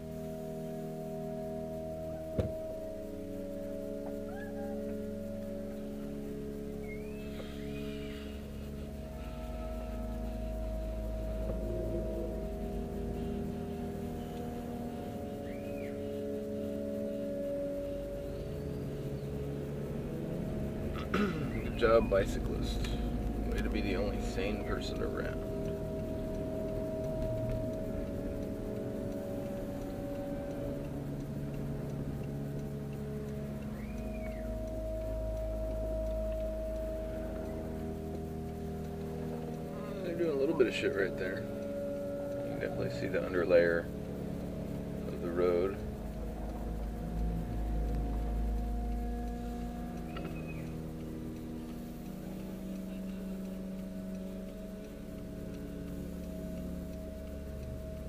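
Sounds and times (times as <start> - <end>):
car engine and tyres drone: 0.0 - 58.0.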